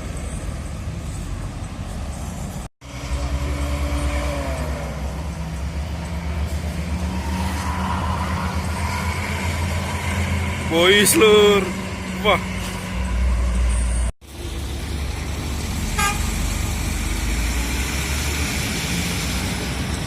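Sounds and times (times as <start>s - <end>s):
diesel engines droning: 0.0s - 20.0s
rising engine whine: 0.0s - 20.0s.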